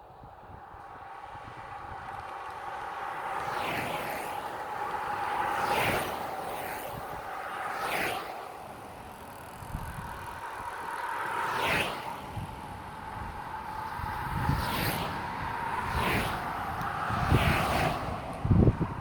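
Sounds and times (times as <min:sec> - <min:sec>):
bicycle road and wind noise: 0:00.0 - 0:19.0.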